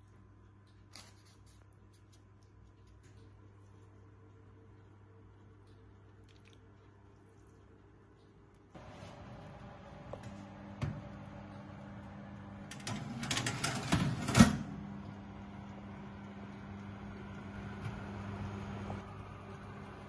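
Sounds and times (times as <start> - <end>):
oven fan humming: 3.0 - 20.0.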